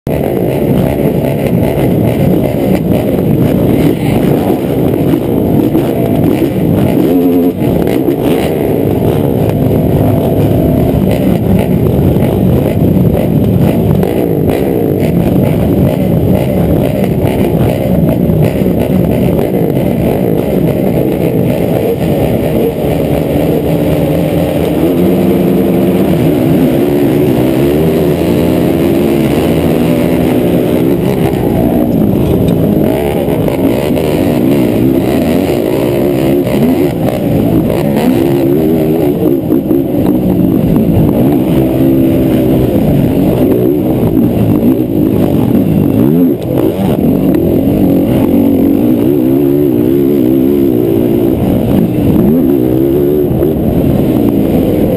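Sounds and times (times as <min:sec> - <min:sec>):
quad engine revving: 0:00.0 - 0:54.9.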